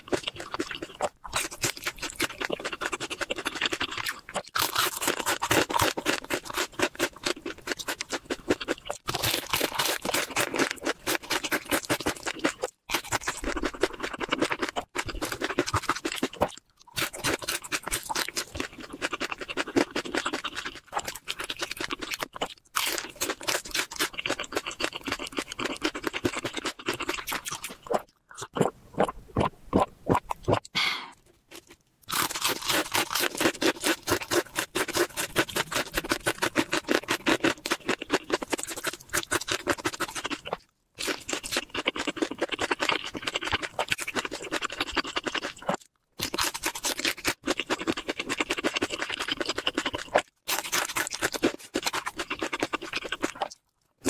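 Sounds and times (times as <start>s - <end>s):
crunching fried chicken: 0.0s - 30.6s, 31.5s - 54.0s.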